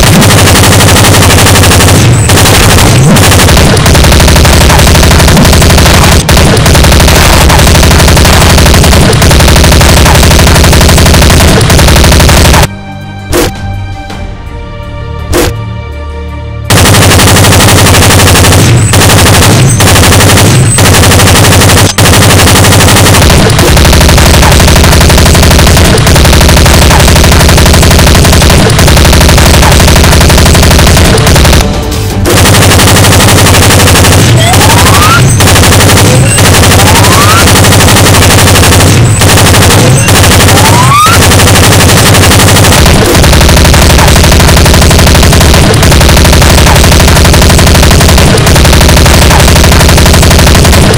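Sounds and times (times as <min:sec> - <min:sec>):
rapid machine-gun fire: 0:00.0 - 0:12.7, 0:16.7 - 0:50.9.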